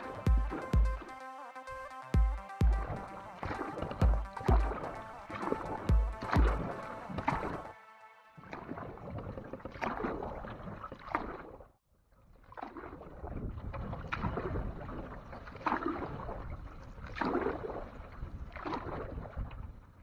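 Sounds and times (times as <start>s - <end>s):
paddle strokes splashing in water: 0.0s - 1.2s, 2.2s - 11.7s, 12.3s - 19.8s.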